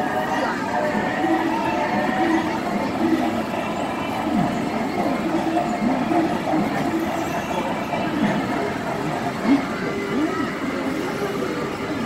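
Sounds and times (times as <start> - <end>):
fairground ride mechanical clatter: 0.0 - 12.0.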